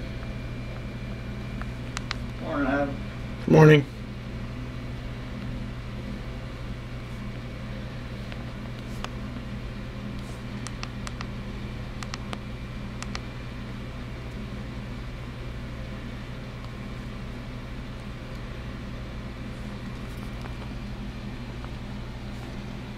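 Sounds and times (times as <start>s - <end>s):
low machine hum: 0.0s - 22.9s.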